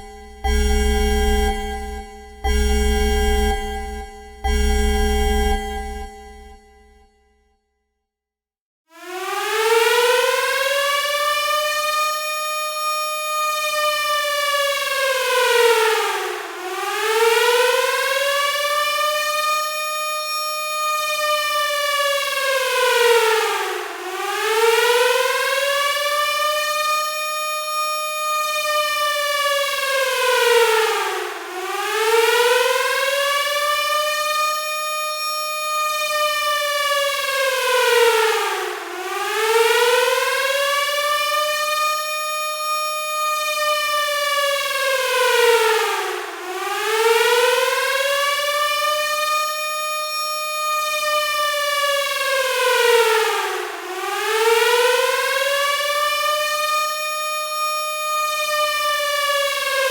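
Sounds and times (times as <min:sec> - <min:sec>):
air-raid siren wailing: 0:00.0 - 0:06.6, 0:09.0 - 0:59.9.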